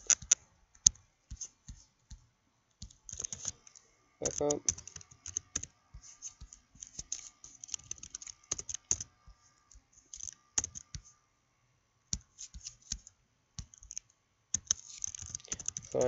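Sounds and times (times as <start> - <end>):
computer keyboard typing: 0.0 - 2.2, 2.8 - 9.1, 9.7 - 11.1, 12.1 - 16.0.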